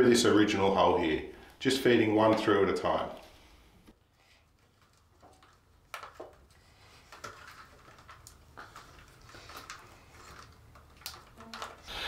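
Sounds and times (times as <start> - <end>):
wires rustling and clicking: 2.2 - 12.0.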